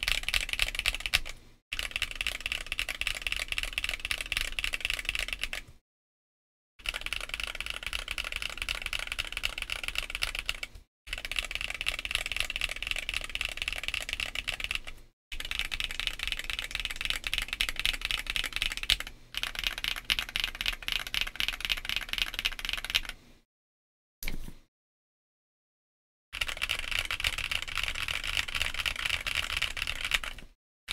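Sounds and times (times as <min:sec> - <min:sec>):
mechanical keyboard typing: 0:00.0 - 0:05.7, 0:06.8 - 0:23.2, 0:26.4 - 0:30.6.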